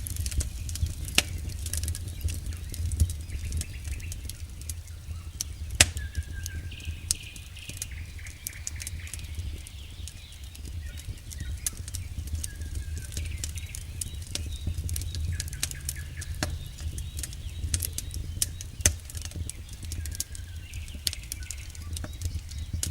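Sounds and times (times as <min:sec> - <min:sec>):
campfire crackling and popping: 0:00.0 - 0:22.9
low fire rumble: 0:00.0 - 0:22.9.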